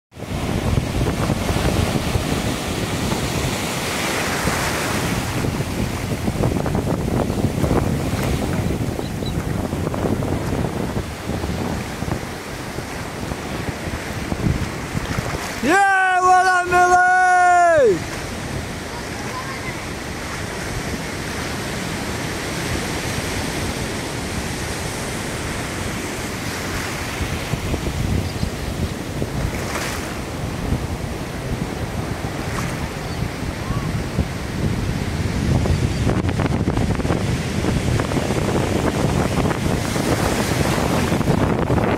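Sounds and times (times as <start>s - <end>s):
wind buffeting microphone: 0.1s - 41.9s
small waves washing on shore: 0.2s - 41.9s.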